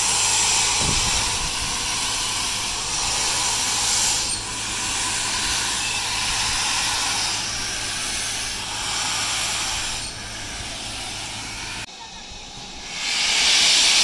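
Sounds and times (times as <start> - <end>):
steam engine hissing steam: 0.0 - 14.0.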